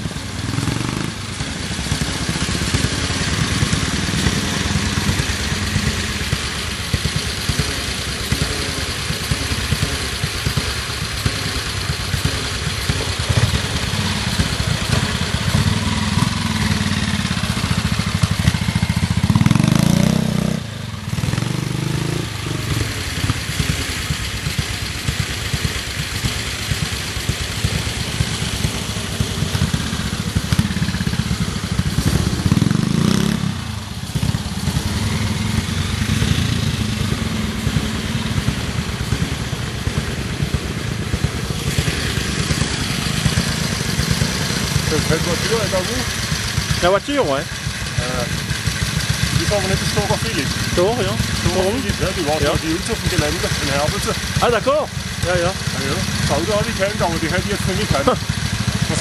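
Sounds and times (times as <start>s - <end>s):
motorcycle engines at low revs: 0.0s - 59.0s.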